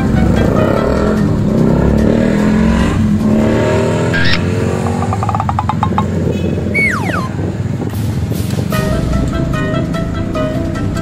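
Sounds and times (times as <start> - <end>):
motorcycles passing: 0.0 - 8.8
cars passing: 0.0 - 11.0.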